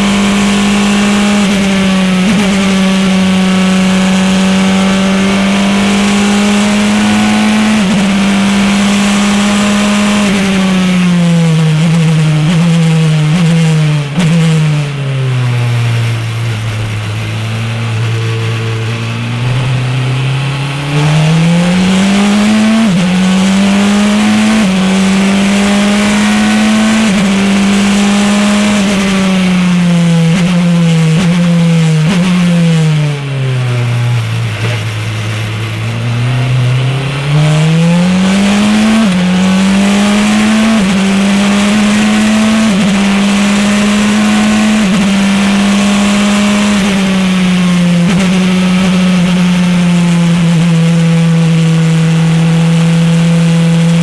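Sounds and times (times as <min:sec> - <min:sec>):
engine downshifting: 0:00.0 - 0:54.0
race car engine accelerating: 0:00.0 - 0:54.0.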